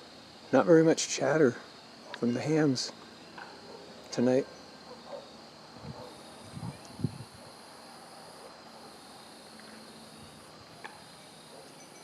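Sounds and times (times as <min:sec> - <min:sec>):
insects calling: 0:00.0 - 0:12.0
high-pitched insect buzz: 0:01.7 - 0:12.0.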